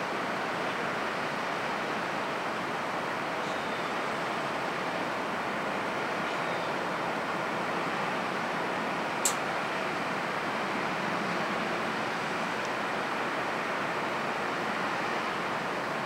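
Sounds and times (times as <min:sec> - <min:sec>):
rail cars rumbling: 0:00.0 - 0:16.0
traffic: 0:00.1 - 0:16.0.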